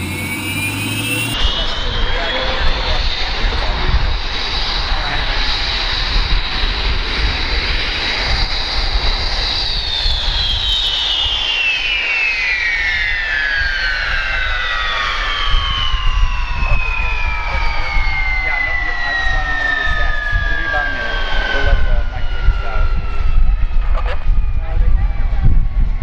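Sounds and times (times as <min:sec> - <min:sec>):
jet engine whining down: 0:00.0 - 0:26.0
low rumble: 0:00.0 - 0:26.0.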